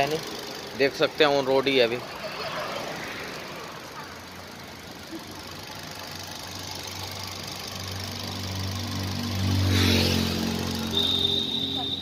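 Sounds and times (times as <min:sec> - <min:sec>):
car engine idling: 0:00.0 - 0:09.6, 0:10.3 - 0:12.0.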